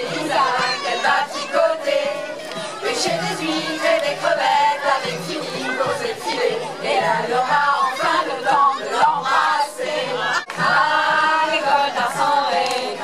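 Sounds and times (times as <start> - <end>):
women and children singing: 0.0 - 13.0.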